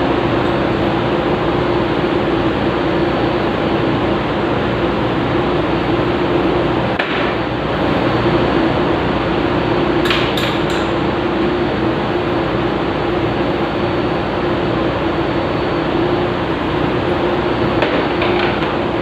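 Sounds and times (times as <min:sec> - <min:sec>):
engine room machinery drone: 0:00.0 - 0:19.0.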